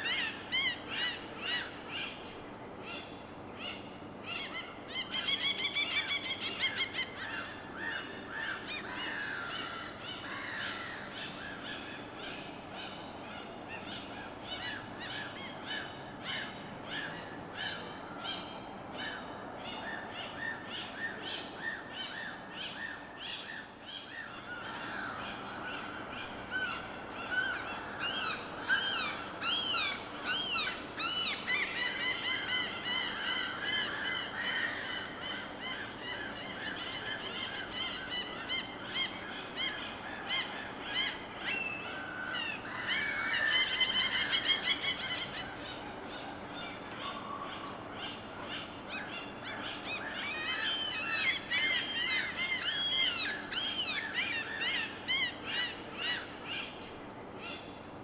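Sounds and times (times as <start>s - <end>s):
low background wash: 0.0s - 58.0s.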